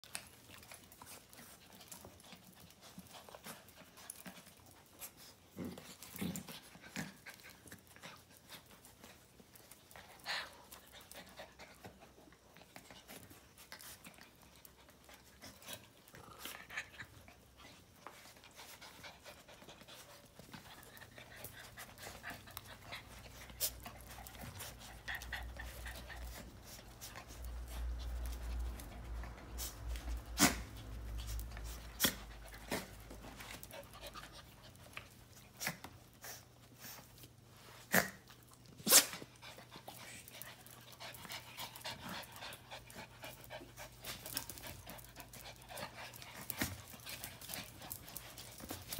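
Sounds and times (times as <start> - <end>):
dogs panting: 0.0 - 37.8, 38.5 - 48.9
dogs scuffling and clicking: 0.0 - 48.9.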